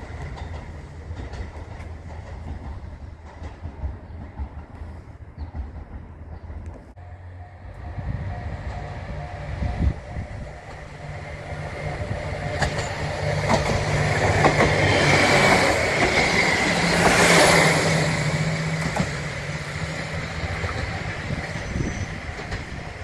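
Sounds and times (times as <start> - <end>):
rail vehicle passing: 0.0 - 23.0.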